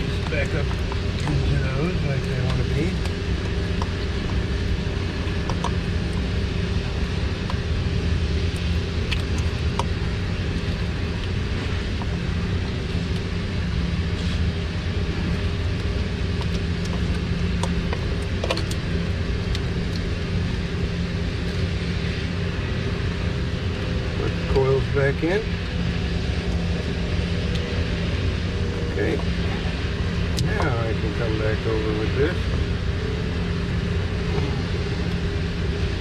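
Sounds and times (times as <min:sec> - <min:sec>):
low machinery drone: 0:00.0 - 0:36.0.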